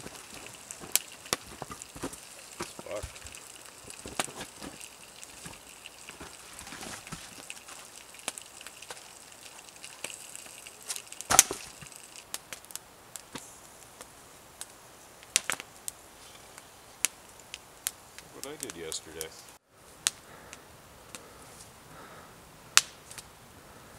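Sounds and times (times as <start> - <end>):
campfire crackling: 0.0 - 23.9.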